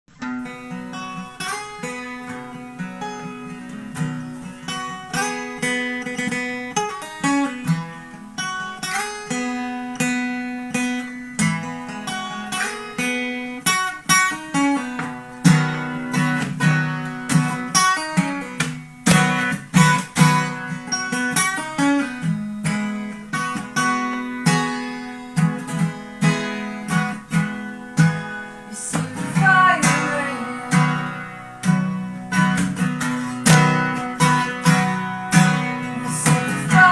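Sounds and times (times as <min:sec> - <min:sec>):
acoustic guitar playing: 0:00.1 - 0:36.9.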